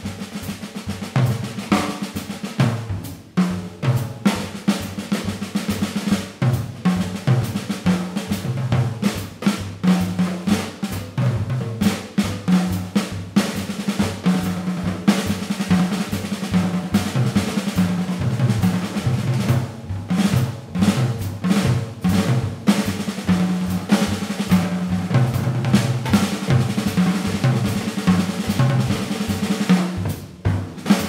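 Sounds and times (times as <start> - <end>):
jazz drum solo: 0.0 - 31.0.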